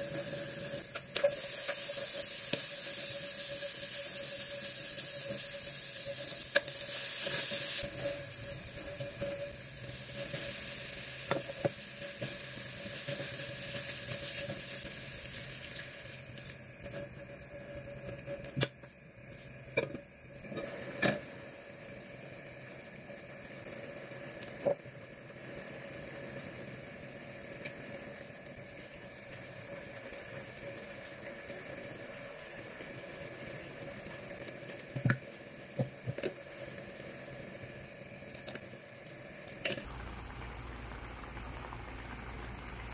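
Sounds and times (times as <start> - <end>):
broth simmering and bubbling: 0.0 - 42.9.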